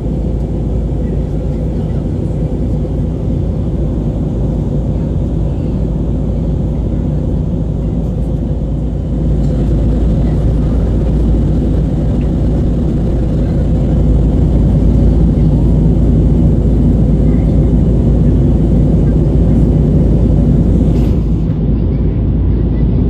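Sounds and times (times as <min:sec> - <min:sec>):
aircraft engines rumbling: 0:00.0 - 0:23.0
airflow over fuselage: 0:00.0 - 0:23.0.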